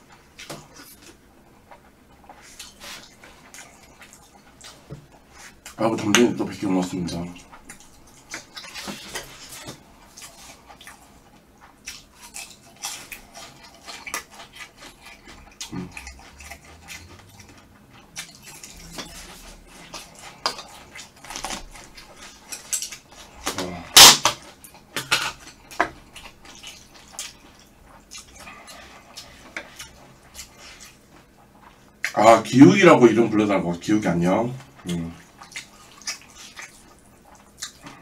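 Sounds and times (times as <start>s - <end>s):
chewing crispy food: 0.0s - 38.0s.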